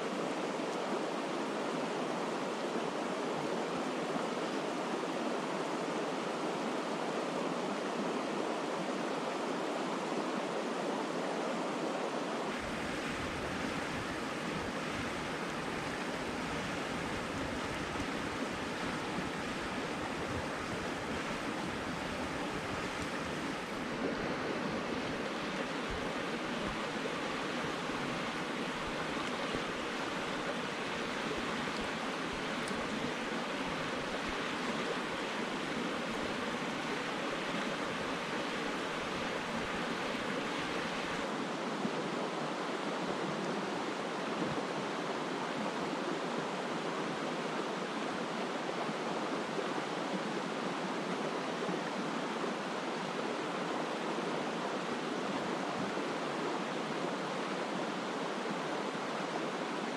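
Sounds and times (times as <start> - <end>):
brook water rushing: 0.0 - 59.9.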